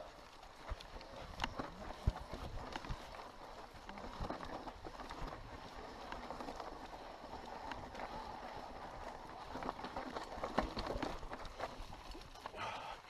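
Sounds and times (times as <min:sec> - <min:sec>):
bike rattling and knocking: 0:00.0 - 0:12.9
tyres crunching over loose stones: 0:00.0 - 0:13.0.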